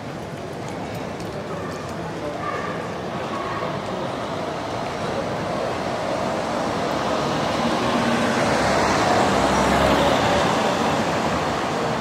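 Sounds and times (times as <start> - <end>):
traffic and street noise: 0.0 - 12.0.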